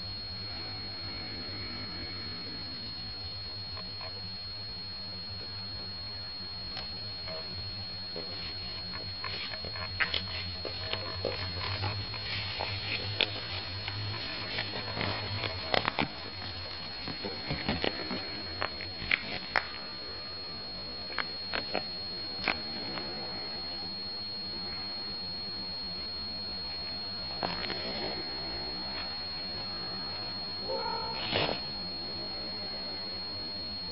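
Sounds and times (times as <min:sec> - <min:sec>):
electrical hum: 0:00.0 - 0:33.9
high whine: 0:00.0 - 0:33.9.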